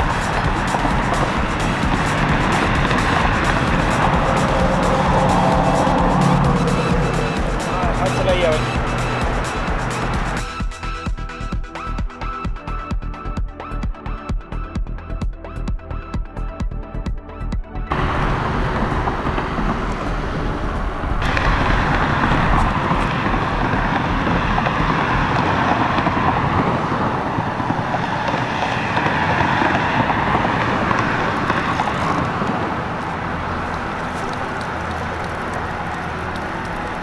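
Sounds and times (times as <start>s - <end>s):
highway traffic noise: 0.0s - 12.4s, 17.8s - 37.0s.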